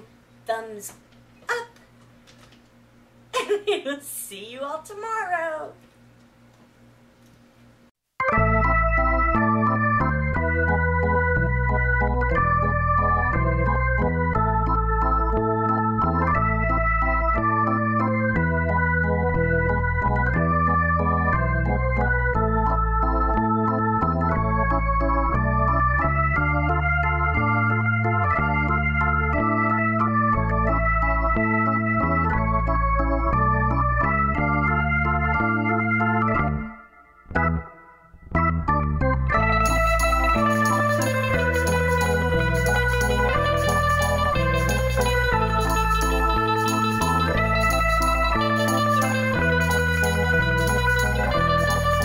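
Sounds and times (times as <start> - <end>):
organ music: 8.2 - 52.0.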